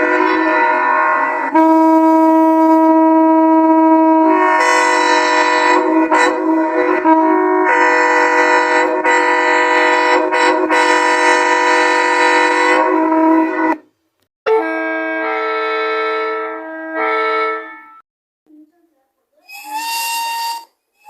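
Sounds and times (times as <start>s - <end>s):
train horn blasts: 0.0s - 13.9s, 14.5s - 18.0s, 19.4s - 21.0s.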